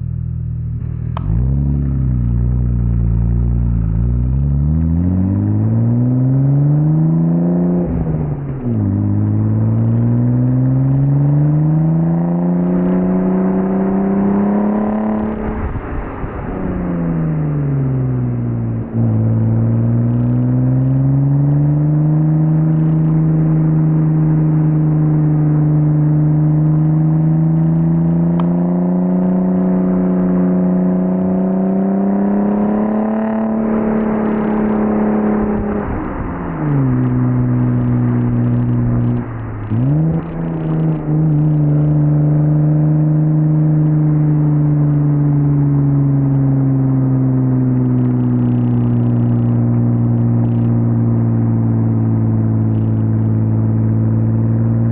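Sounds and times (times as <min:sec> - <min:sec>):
car engine revving through gears: 0:00.8 - 0:54.9.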